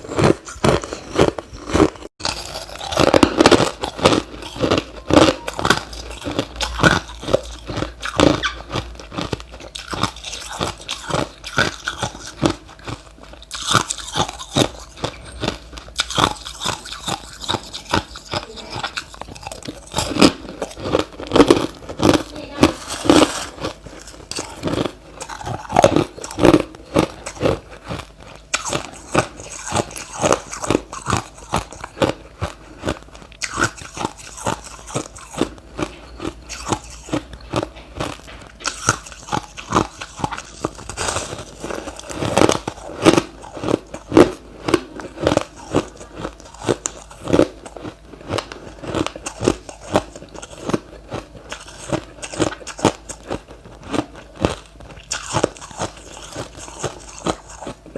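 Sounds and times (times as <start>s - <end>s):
chewing crushed ice: 0.0s - 57.9s.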